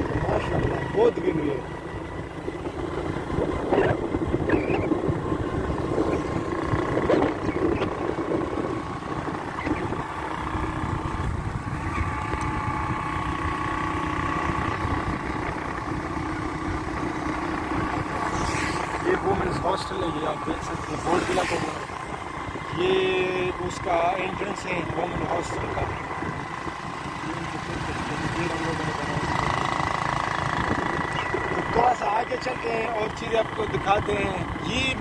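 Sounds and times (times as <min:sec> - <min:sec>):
motorcycle engine rumble: 0:00.0 - 0:35.0.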